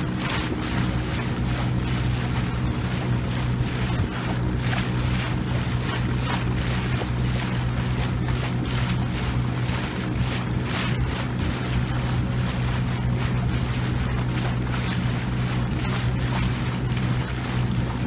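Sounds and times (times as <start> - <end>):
boat motor humming: 0.0 - 18.0
water rushing past hull: 0.0 - 18.0.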